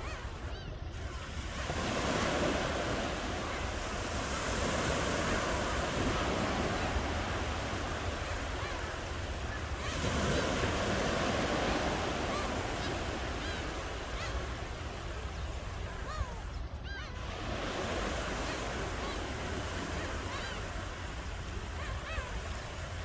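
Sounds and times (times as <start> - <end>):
ocean waves breaking on shore: 0.0 - 23.0.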